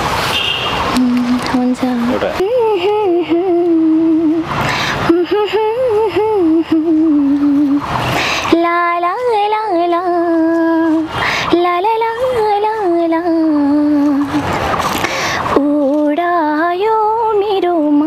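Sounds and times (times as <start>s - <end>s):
young woman singing unaccompanied: 0.9s - 14.5s, 15.4s - 18.0s.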